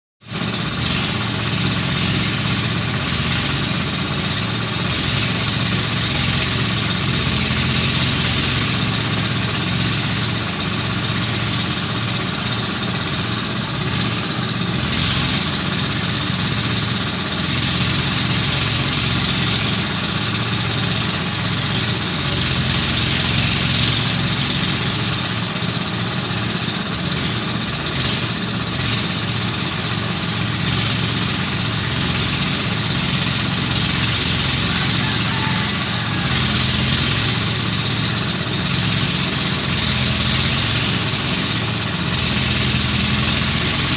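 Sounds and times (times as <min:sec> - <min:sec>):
harvester engine running: 0:00.2 - 0:43.9.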